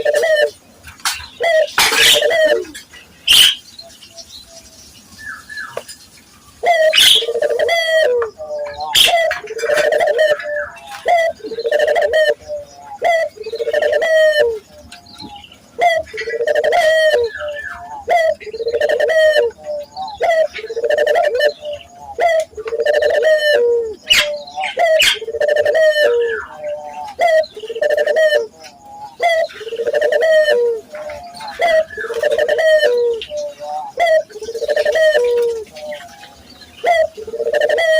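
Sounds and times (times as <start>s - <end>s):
doves cooing: 0.0s - 3.6s, 5.3s - 37.9s.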